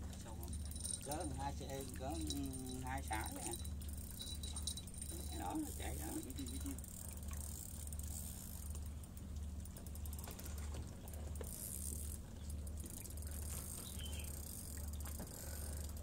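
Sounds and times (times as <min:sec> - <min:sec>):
low pulsing hum: 0:00.0 - 0:16.0
fishing reel clicking and ratcheting: 0:00.1 - 0:16.0.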